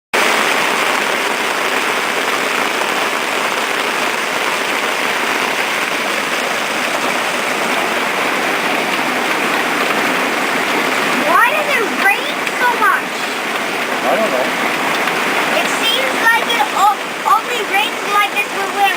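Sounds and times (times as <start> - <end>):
steady rain falling: 0.2 - 18.9.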